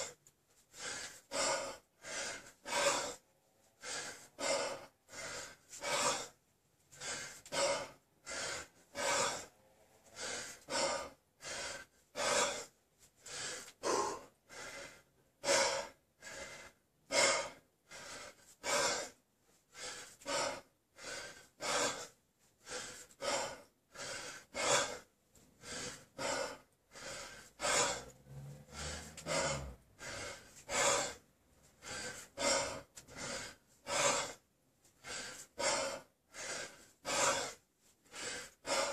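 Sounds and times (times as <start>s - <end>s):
man breathing heavily: 0.0s - 38.9s.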